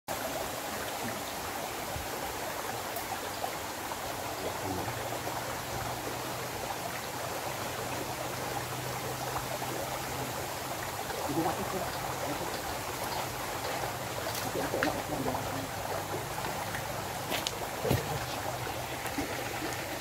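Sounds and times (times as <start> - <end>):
creek water running: 0.1 - 20.0.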